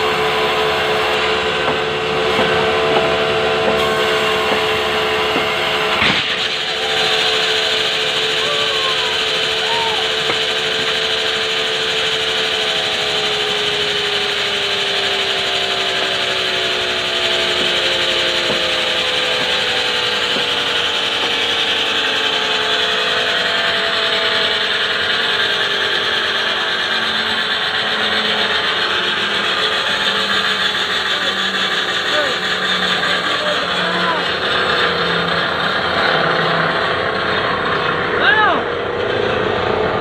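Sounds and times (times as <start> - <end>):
band sawmill sawing log: 0.0 - 40.0.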